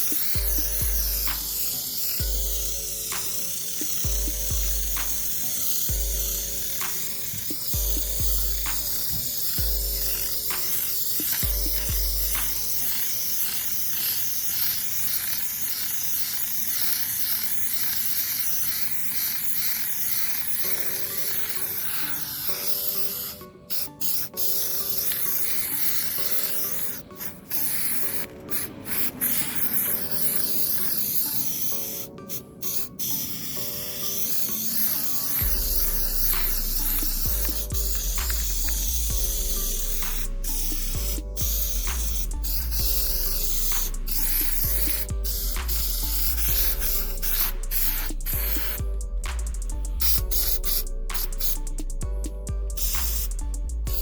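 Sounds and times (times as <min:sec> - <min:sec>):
aerosol spray can hissing: 0:00.0 - 0:54.0
background music: 0:00.0 - 0:54.0.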